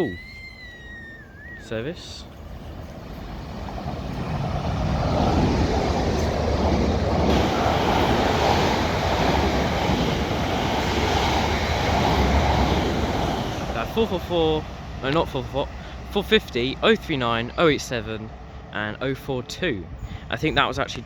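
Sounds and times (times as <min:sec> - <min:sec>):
electric train passing at speed: 0:00.0 - 0:21.0
wheels rushing on rails: 0:00.0 - 0:21.0.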